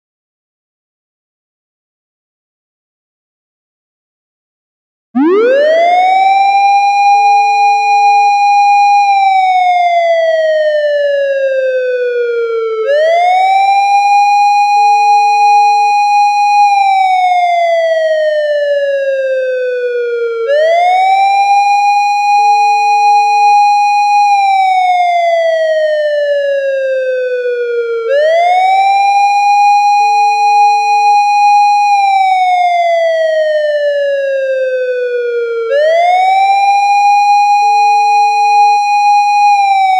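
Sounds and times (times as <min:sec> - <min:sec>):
police siren wailing: 0:05.2 - 0:39.9.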